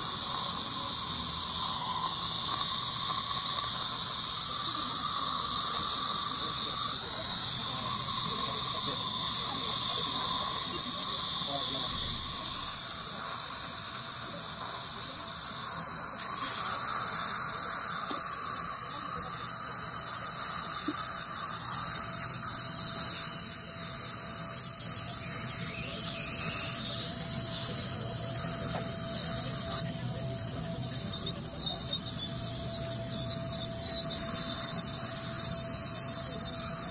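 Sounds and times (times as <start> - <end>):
dental suction hissing: 0.0 - 36.9.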